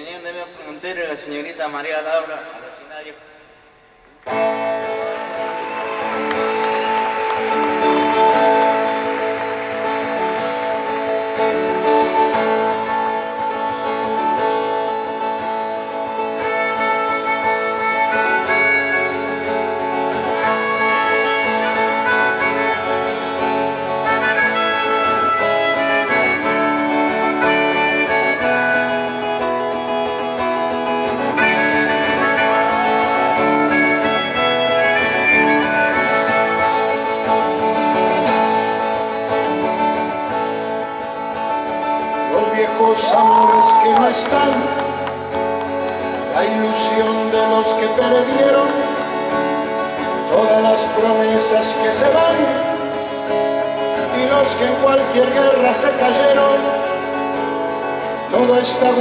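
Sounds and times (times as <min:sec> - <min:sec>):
acoustic guitar: 0:03.4 - 0:59.0
band playing: 0:04.0 - 0:59.0
harmonica: 0:04.3 - 0:59.0.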